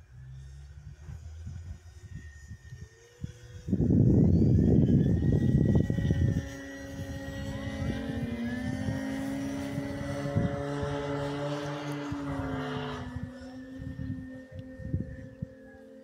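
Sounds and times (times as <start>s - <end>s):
model plane propellers droning: 0.0s - 16.0s.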